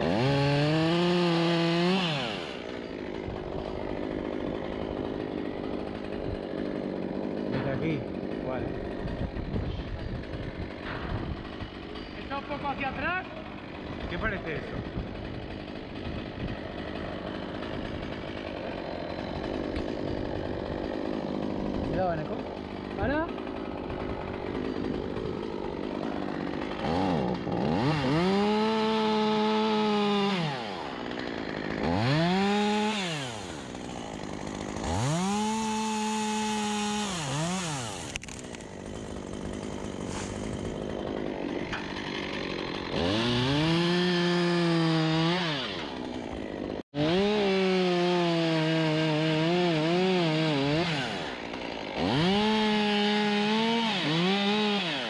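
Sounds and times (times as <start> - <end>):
chainsaw revving through wood: 0.0 - 55.0.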